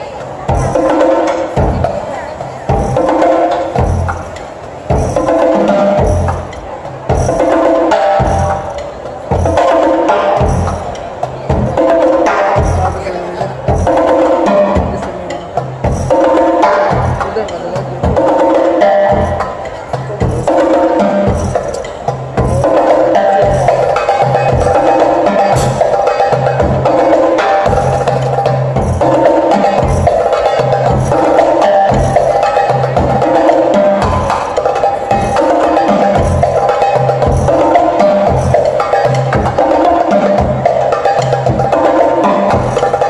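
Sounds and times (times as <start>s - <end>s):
drums and cymbals groove: 0.0s - 43.0s
repeating low beat: 0.4s - 43.0s.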